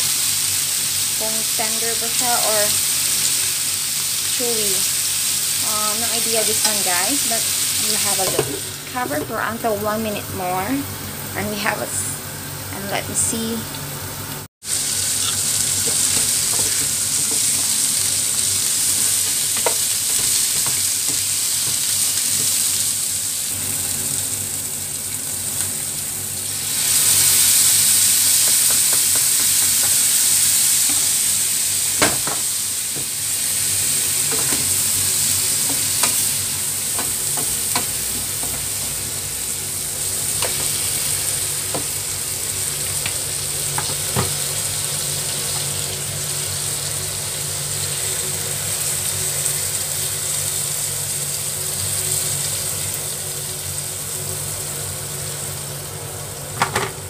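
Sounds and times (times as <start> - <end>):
ribs sizzling in a pan: 0.0 - 12.1, 14.6 - 56.6.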